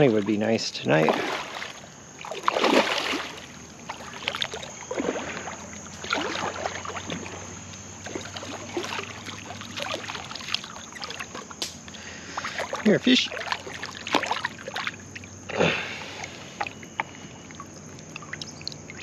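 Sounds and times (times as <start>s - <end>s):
fish splashing in water: 0.0s - 19.0s.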